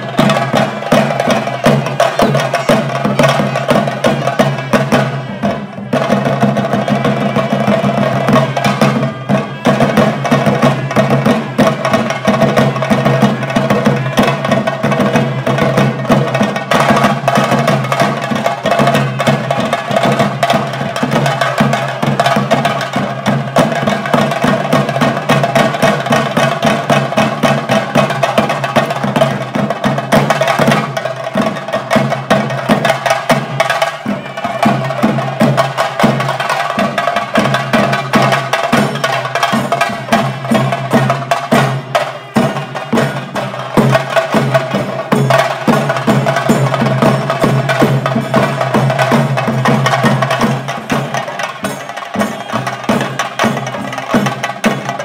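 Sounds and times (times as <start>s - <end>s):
fast continuous drumming: 0.0s - 55.0s.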